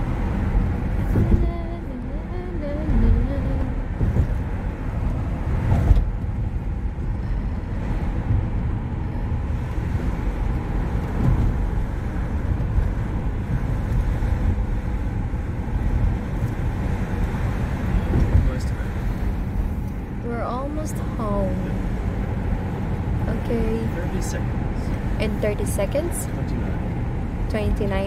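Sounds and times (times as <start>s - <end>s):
car engine and tyres rumbling: 0.0s - 28.0s.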